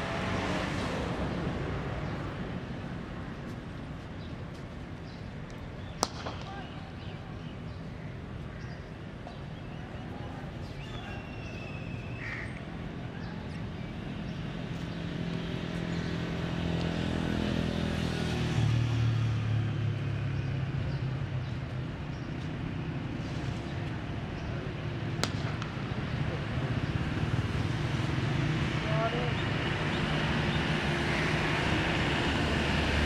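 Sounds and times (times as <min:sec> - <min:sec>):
outdoor noise: 0:00.0 - 0:33.0.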